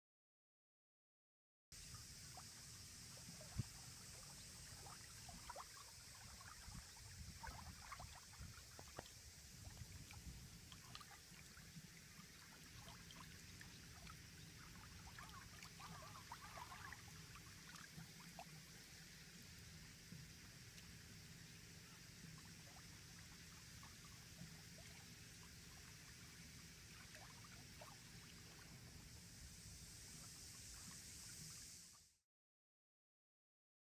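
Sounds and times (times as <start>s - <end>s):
wavelets lapping at shore: 2.2s - 20.9s, 21.8s - 32.0s.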